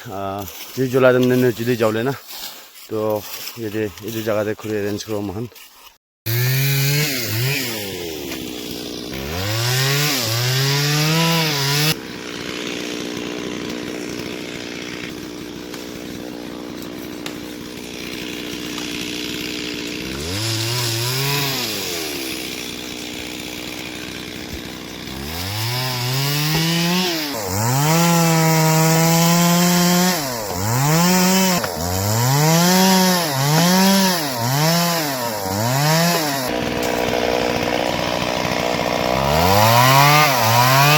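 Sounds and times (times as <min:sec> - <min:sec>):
chainsaw revving: 0:06.3 - 0:40.9.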